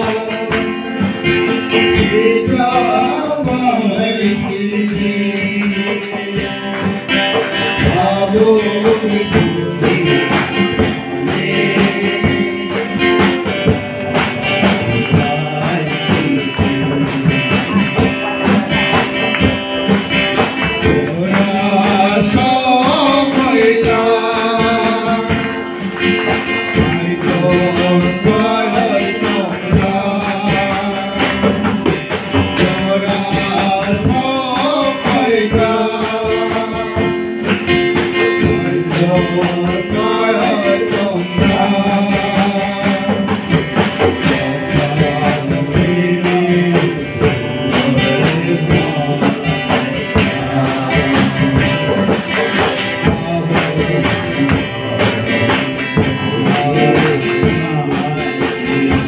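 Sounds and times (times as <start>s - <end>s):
instrumental backing: 0.0s - 59.0s
men singing through microphones: 0.0s - 59.0s.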